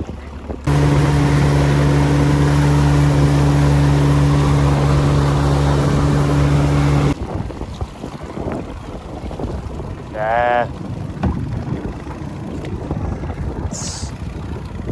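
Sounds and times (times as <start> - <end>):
water wash: 0.0 - 14.9
boat engine droning: 0.1 - 7.2, 9.2 - 14.9.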